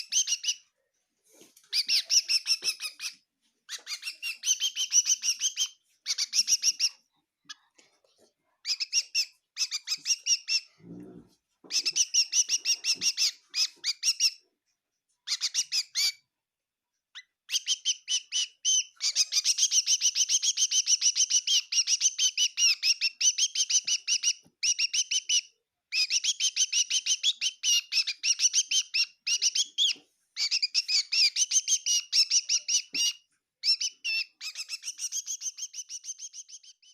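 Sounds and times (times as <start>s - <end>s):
bird chirping rapidly: 0.0s - 0.7s, 1.6s - 7.0s, 8.6s - 10.7s, 11.7s - 14.4s, 15.3s - 16.2s, 17.2s - 36.9s.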